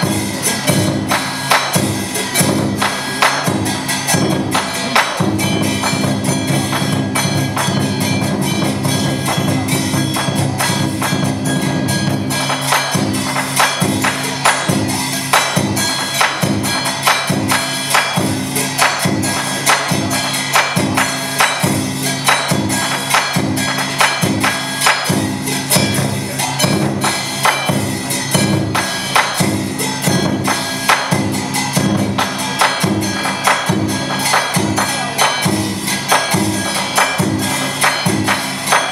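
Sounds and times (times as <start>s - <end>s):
percussion beat: 0.0s - 38.9s.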